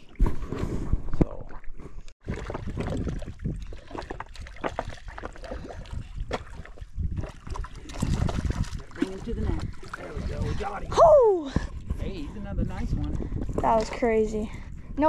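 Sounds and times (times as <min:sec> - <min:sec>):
wind rumbling on microphone: 0:00.0 - 0:15.0
faint water sounds: 0:01.0 - 0:15.0.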